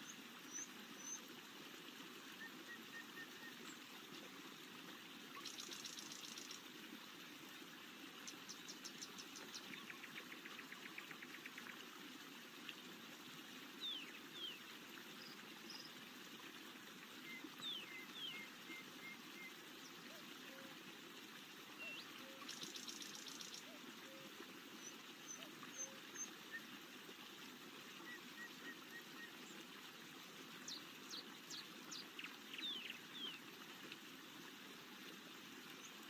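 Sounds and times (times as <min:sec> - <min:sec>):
stream water over rocks: 0:00.0 - 0:36.0.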